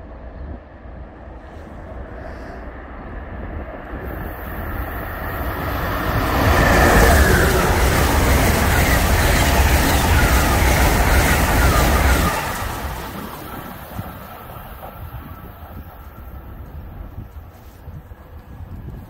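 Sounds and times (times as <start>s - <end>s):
passenger train passing: 0.0s - 19.0s.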